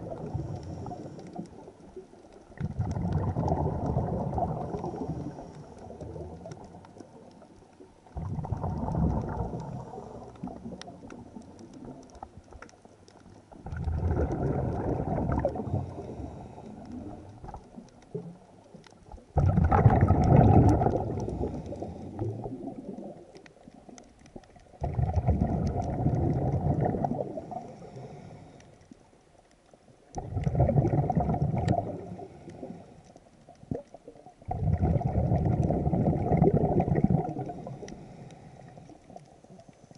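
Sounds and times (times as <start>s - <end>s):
exhaled breath bubbling underwater: 0.0s - 1.9s, 2.5s - 7.2s, 8.1s - 12.3s, 13.5s - 18.5s, 19.2s - 23.9s, 24.7s - 28.8s, 30.2s - 39.6s.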